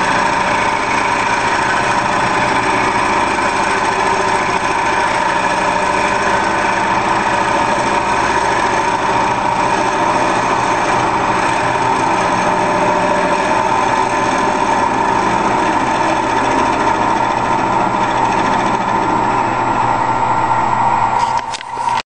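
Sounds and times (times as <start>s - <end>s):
lathe machine whine: 0.0s - 22.0s.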